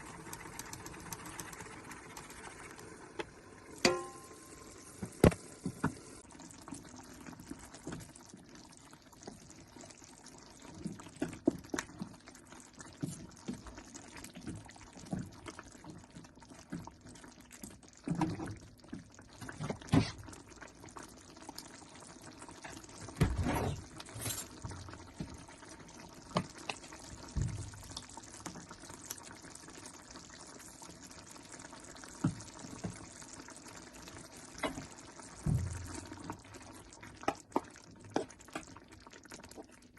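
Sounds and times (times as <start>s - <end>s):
liquid pouring and dripping: 0.0s - 39.9s.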